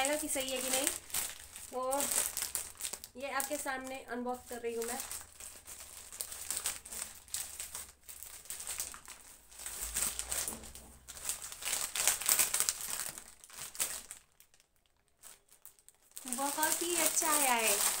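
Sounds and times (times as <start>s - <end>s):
plastic mailer bag crinkling: 0.0s - 18.0s.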